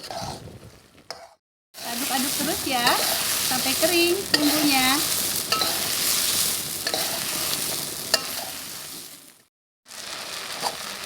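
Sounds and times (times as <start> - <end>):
shrimp sizzling in a pan: 1.1 - 11.0.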